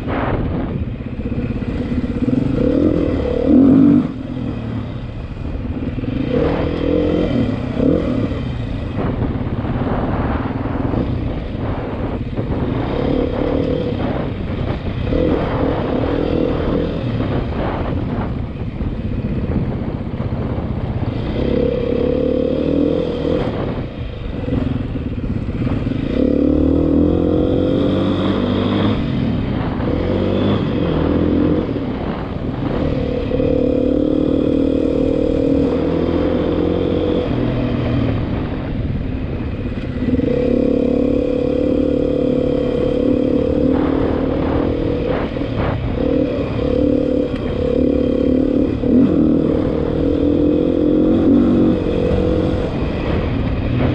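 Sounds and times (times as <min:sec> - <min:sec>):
motorcycle engine shifting gears: 0:00.0 - 0:53.9.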